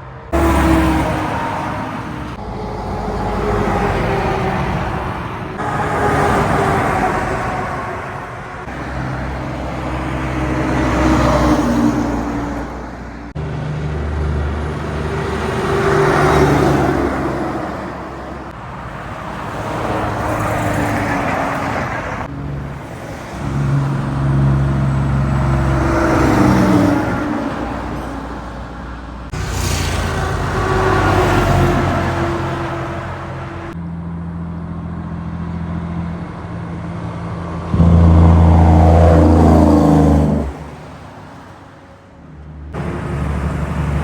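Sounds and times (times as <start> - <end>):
heavy diesel trucks passing: 0.0 - 44.0.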